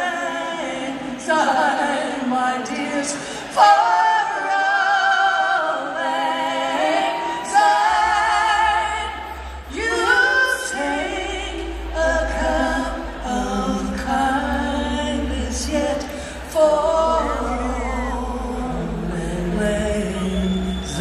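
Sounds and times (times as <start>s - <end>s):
choir-like voices singing: 0.0s - 21.0s.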